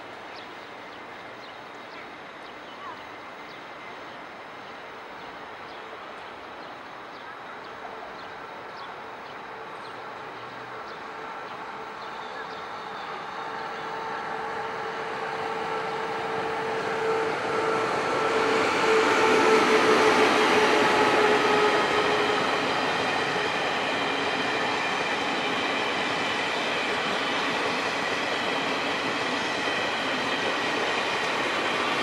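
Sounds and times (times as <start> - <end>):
electric train whine: 0.0 - 32.0
train wheels rolling on track: 0.0 - 32.0.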